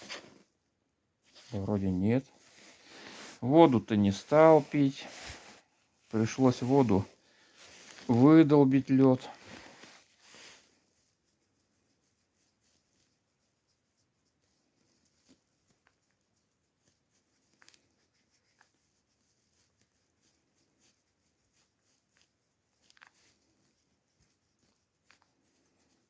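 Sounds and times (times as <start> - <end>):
faint rustles: 1.2 - 26.0.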